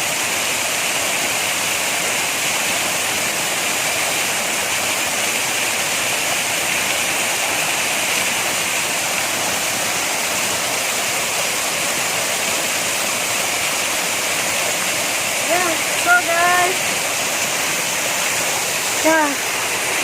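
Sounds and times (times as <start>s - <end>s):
waterfall roaring over rocks: 0.0s - 20.0s.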